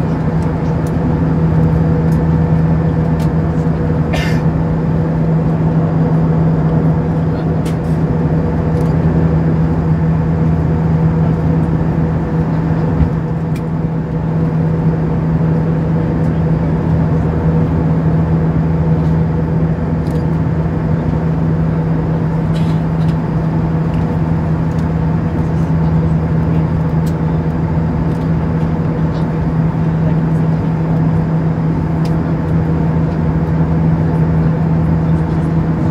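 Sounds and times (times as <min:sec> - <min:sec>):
airplane cabin jet engine drone: 0:00.0 - 0:35.9.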